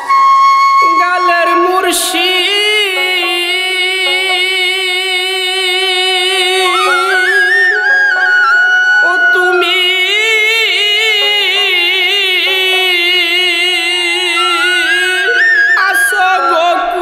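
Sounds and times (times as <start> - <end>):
bamboo flute melody: 0.0 - 17.0
harmonium: 0.0 - 17.0
man singing: 0.8 - 8.3, 9.0 - 17.0.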